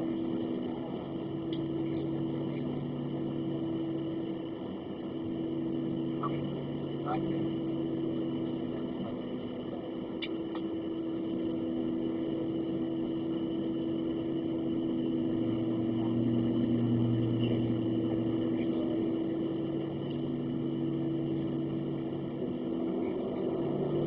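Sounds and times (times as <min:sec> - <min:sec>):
deep drone: 0:00.0 - 0:24.0
jet engines humming: 0:00.0 - 0:24.0.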